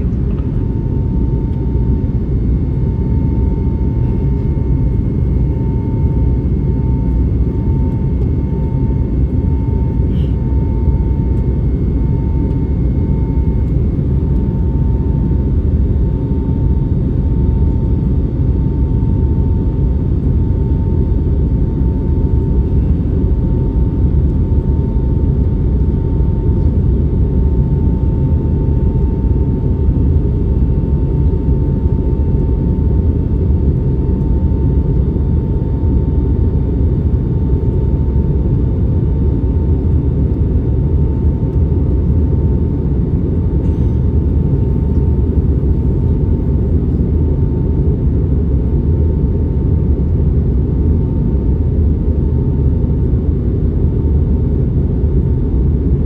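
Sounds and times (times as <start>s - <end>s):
thin steady whine: 0.0s - 49.2s.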